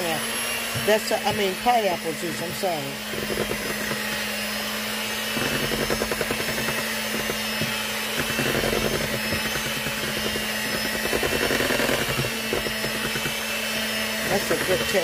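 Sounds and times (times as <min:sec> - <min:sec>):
electric hand mixer running: 0:00.0 - 0:15.0.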